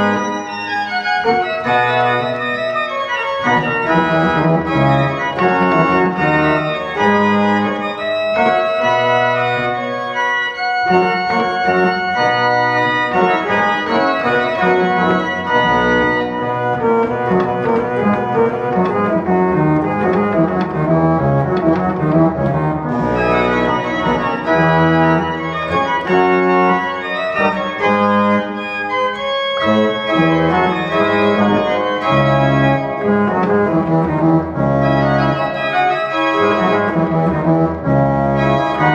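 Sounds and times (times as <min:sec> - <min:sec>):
pipe organ playing: 0:00.0 - 0:38.9.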